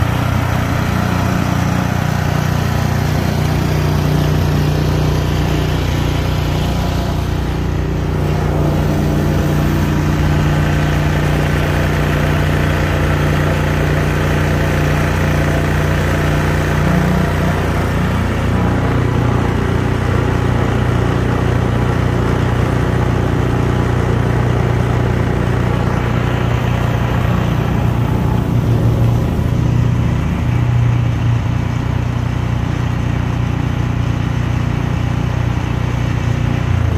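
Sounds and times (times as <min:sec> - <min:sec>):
large engine running under load: 0:00.0 - 0:36.9.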